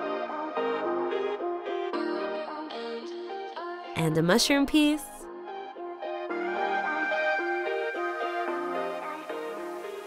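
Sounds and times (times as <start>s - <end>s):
light background melody: 0.0s - 10.0s.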